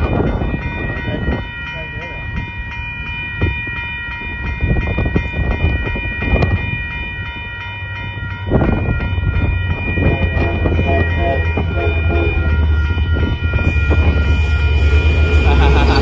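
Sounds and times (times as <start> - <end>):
crossing bell ringing: 0.0 - 16.0
diesel locomotive rumble: 0.0 - 16.0.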